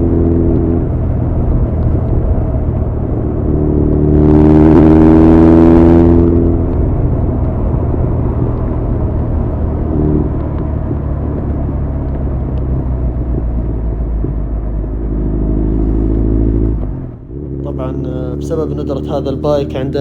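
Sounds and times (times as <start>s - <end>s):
motorcycle exhaust note: 0.0s - 20.0s.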